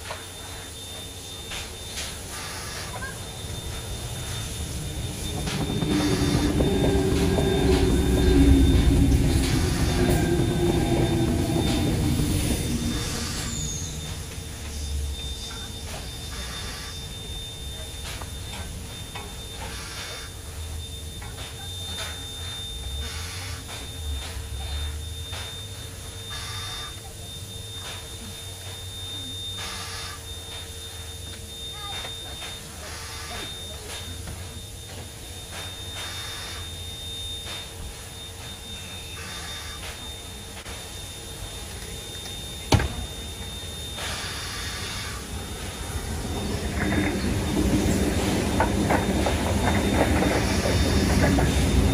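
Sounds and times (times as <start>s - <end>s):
electric train rumbling: 0.0s - 51.9s
steam locomotive hissing: 0.0s - 51.9s.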